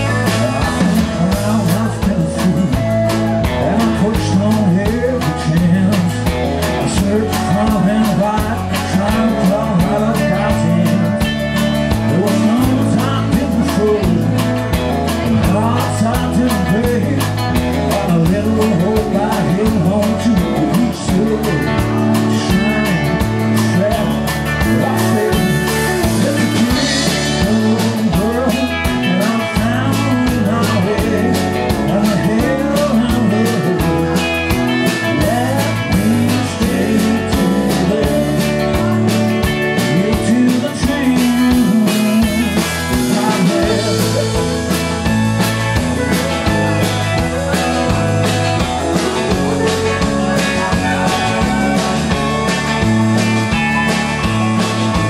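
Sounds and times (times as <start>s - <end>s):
drum kit steady beat: 0.0s - 55.0s
electric and acoustic guitars: 0.0s - 55.0s
person singing: 0.0s - 55.0s.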